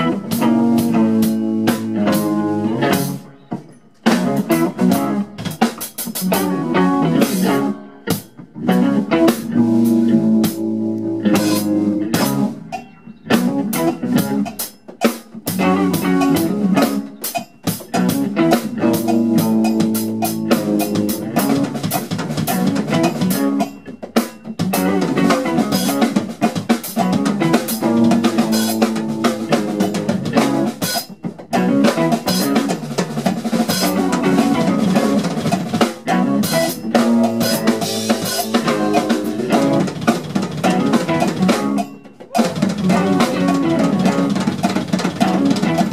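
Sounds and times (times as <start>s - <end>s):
funk band playing: 0.0s - 45.9s
drum kit hits: 4.1s - 45.9s.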